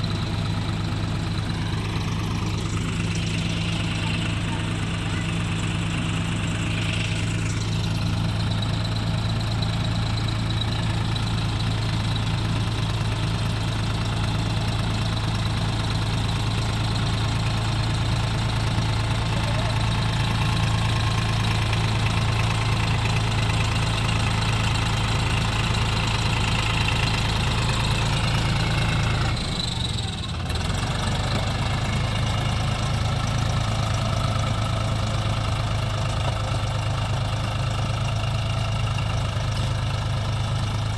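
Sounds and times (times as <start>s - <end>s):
diesel engine running steadily: 0.0s - 40.9s.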